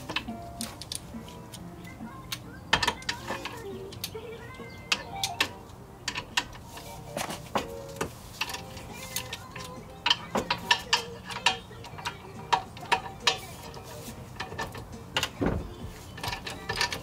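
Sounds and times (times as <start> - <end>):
metal tools clicking on bolts: 0.0 - 17.0.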